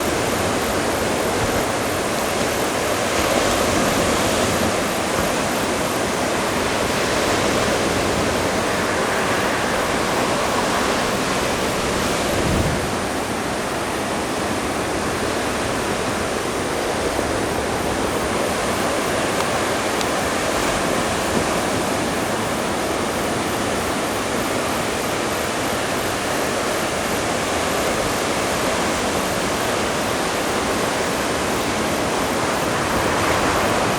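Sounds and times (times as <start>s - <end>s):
surf breaking on shore: 0.0s - 33.9s.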